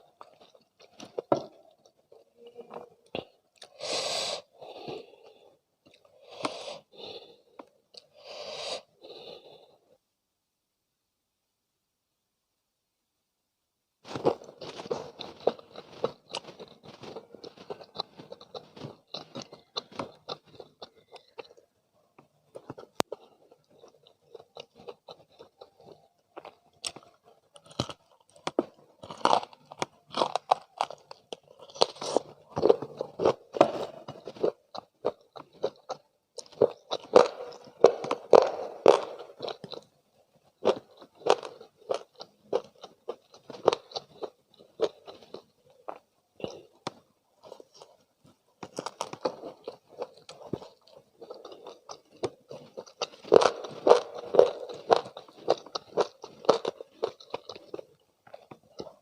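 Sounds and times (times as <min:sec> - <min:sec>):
chewing and crunching fried chicken: 0:00.0 - 0:03.8, 0:14.0 - 0:59.0.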